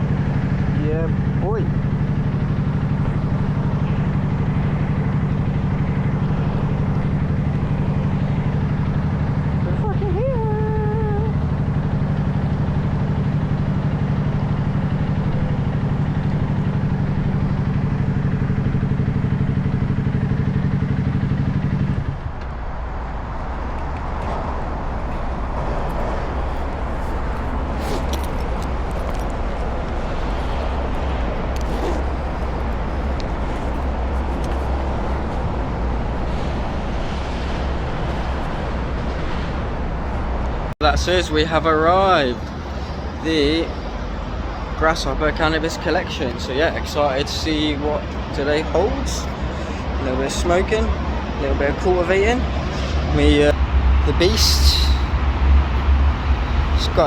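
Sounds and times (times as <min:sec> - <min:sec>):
low rumble: 0:00.0 - 0:57.0
motorcycle engine droning: 0:00.0 - 0:57.0.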